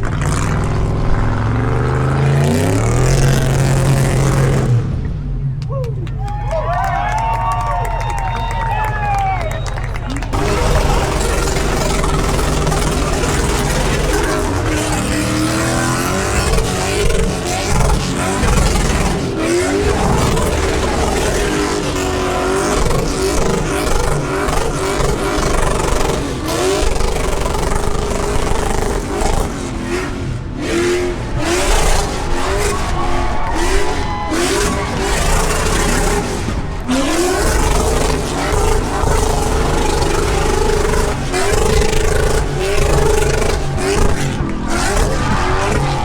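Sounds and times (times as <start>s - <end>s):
car engine revving: 0.0s - 5.6s, 7.7s - 46.0s
spinning tyres rushing: 0.0s - 46.0s.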